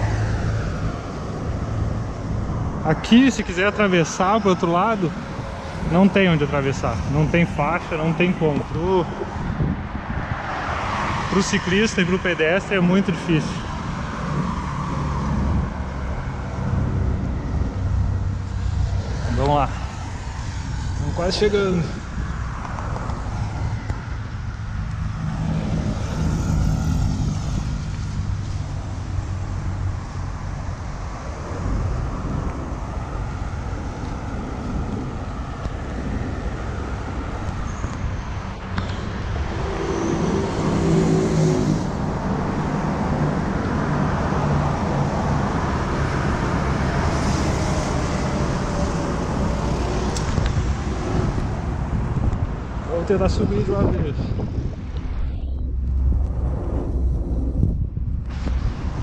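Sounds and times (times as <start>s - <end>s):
cars driving past: 0.0s - 59.0s
constant traffic rumble: 0.0s - 59.0s.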